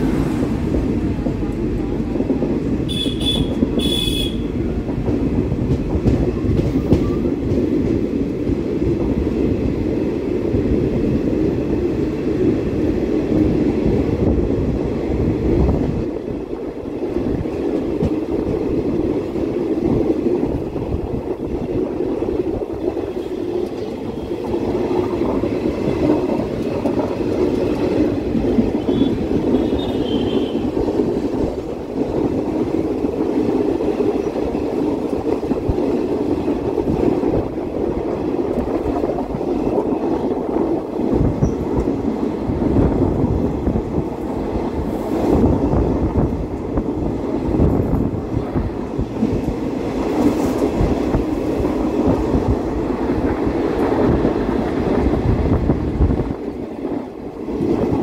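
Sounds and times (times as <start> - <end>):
train rumbling along track: 0.0 - 58.0.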